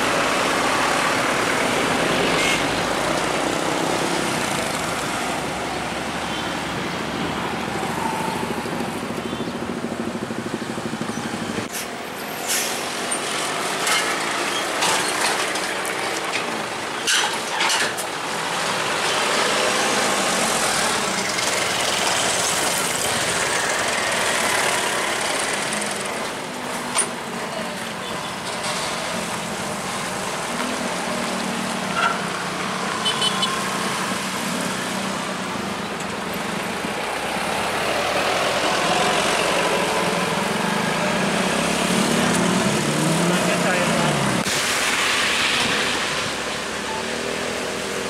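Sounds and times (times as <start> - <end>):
traffic noise: 0.0 - 48.0.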